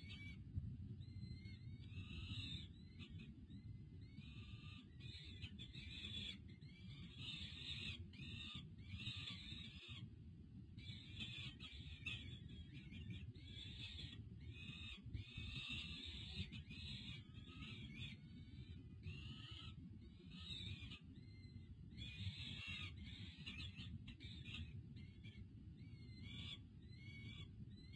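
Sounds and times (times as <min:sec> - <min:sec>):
falcon chicks begging calls: 0:00.0 - 0:00.4, 0:01.4 - 0:10.1, 0:10.8 - 0:27.9.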